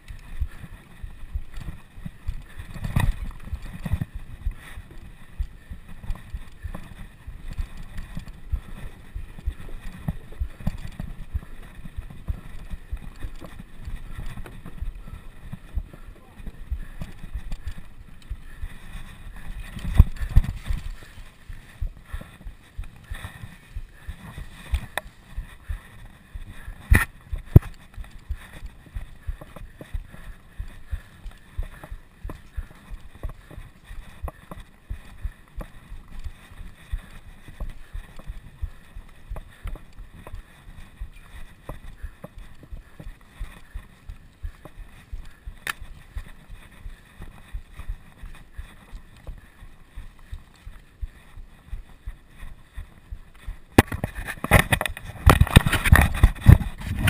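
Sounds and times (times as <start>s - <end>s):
bicycle road rattle: 0.0s - 57.0s.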